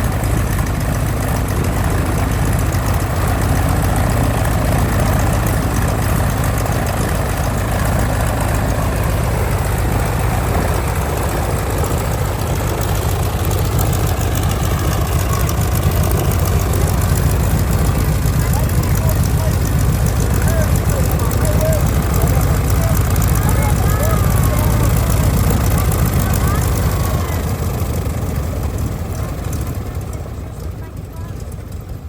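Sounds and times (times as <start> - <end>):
aircraft radial engine idling: 0.0 - 32.0.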